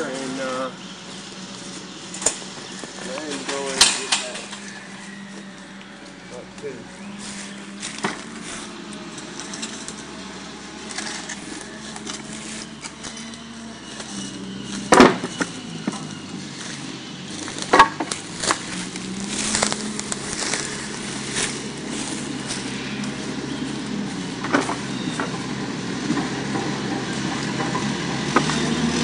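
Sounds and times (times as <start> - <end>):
branches being raked: 0.0 - 29.0
steady low hum: 0.0 - 29.0.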